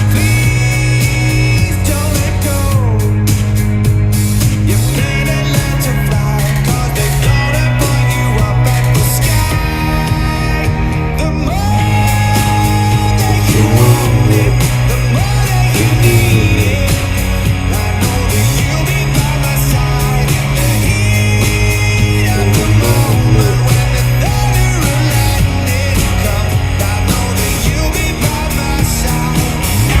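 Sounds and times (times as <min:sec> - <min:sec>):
man singing: 0:00.0 - 0:03.2, 0:04.8 - 0:30.0
bass line: 0:00.0 - 0:30.0
upbeat rock song: 0:00.0 - 0:30.0.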